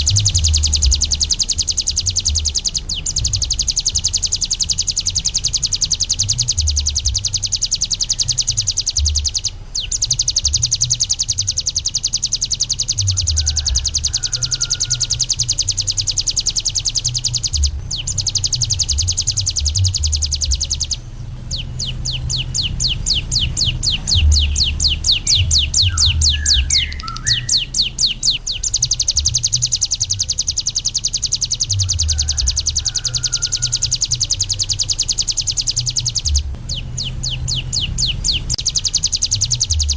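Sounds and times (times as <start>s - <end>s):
low rumble: 0.0s - 33.0s, 33.6s - 39.9s
bird singing fast trill: 0.0s - 39.9s.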